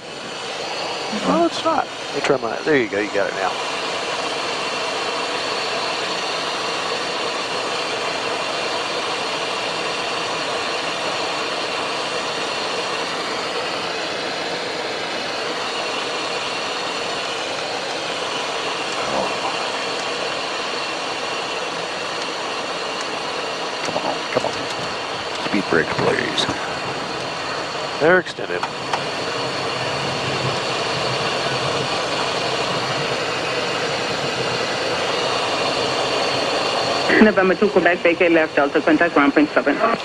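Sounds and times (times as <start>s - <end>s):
jet engines humming: 0.0s - 40.0s
steady whining tones: 0.0s - 40.0s.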